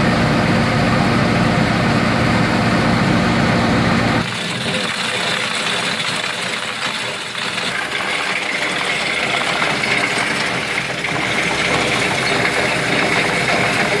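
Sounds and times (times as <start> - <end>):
farm machinery engine running: 0.0 - 14.0.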